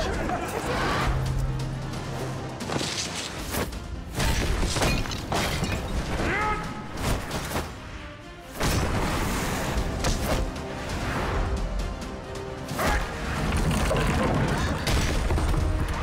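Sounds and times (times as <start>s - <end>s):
dramatic background music: 0.0s - 16.0s.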